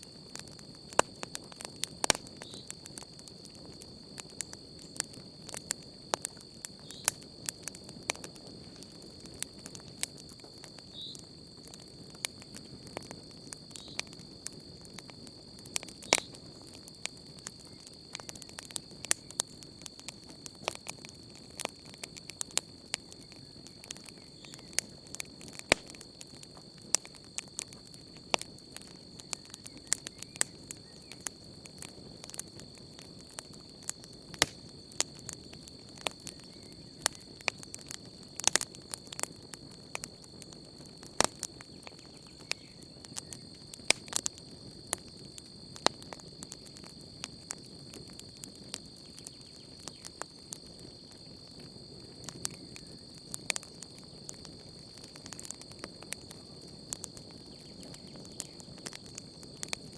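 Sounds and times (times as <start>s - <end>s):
campfire crackling and popping: 0.0s - 59.9s
insect trill: 0.0s - 59.9s.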